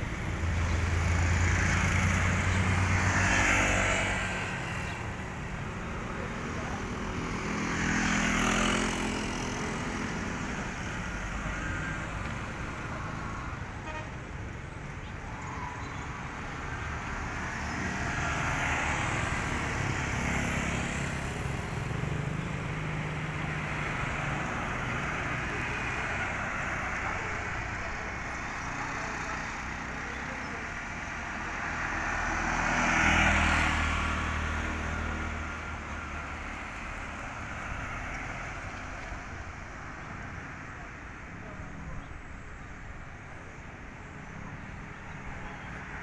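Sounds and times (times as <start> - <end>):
vehicles passing on road: 0.0 - 46.0.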